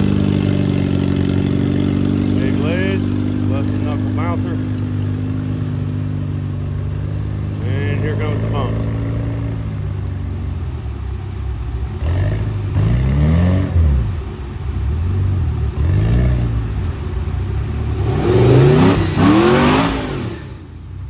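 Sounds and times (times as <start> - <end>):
pickup engine revving: 0.0 - 21.0.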